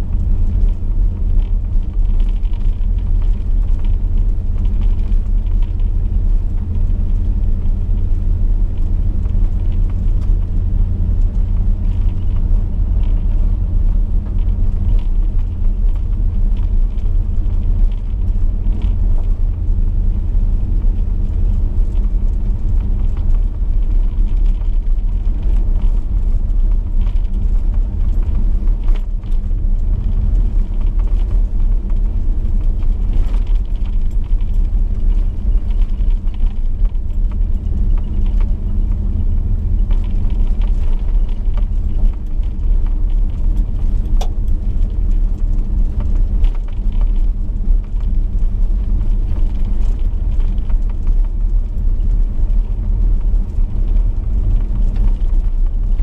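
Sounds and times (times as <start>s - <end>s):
car engine rumbling on gravel: 0.0s - 56.0s.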